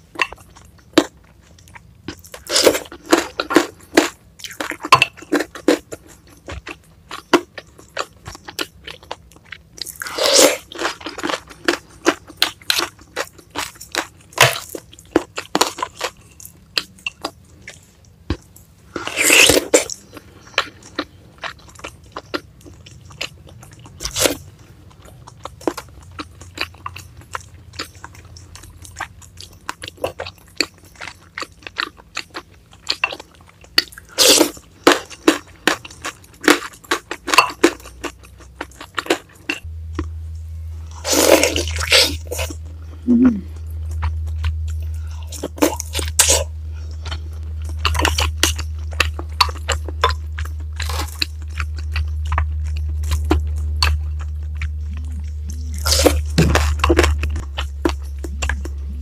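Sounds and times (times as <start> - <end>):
crunchy chewing: 0.0 - 40.2, 40.8 - 59.0.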